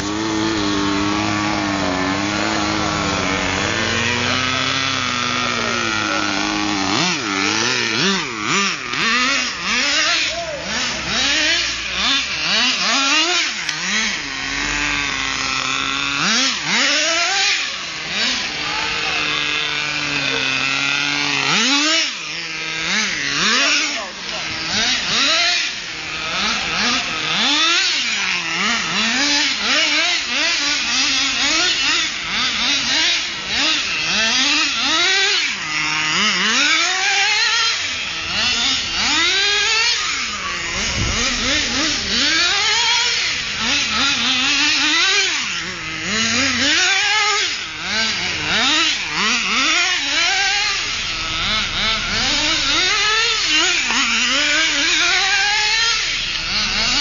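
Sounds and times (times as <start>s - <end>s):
small two-stroke engine revving: 0.0s - 57.0s.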